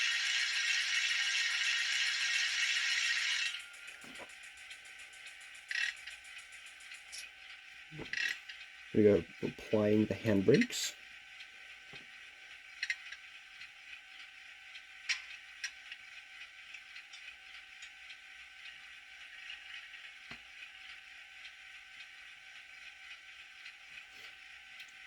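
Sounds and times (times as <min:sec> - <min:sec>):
model locomotive diesel idle: 0:00.0 - 0:25.0.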